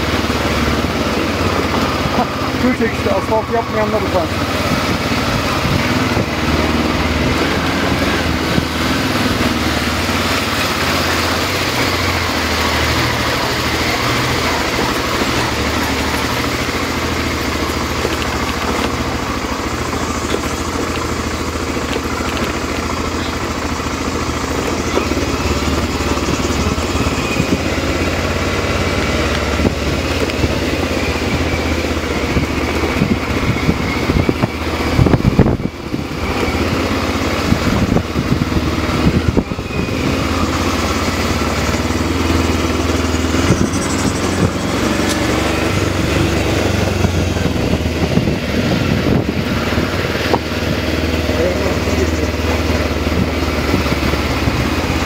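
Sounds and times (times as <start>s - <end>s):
road noise: 0.0s - 55.0s
tyres on gravel road: 0.0s - 55.0s
vehicle engine running: 0.0s - 55.0s
wind: 0.0s - 55.0s.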